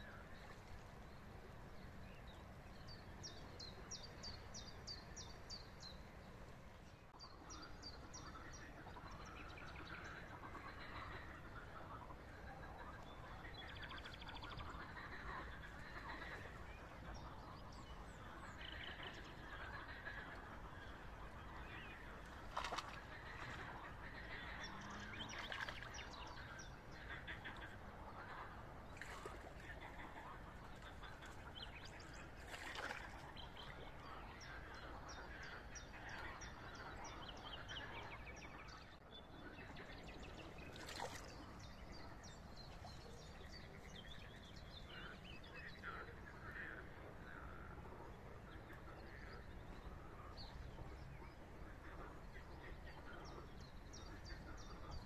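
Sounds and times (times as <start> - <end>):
birds calling and chirping: 7.2 - 55.0.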